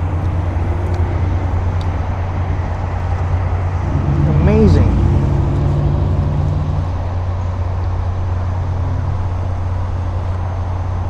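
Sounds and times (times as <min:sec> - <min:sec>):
engine idling hum: 0:00.0 - 0:11.0
faint rumble: 0:00.0 - 0:11.0.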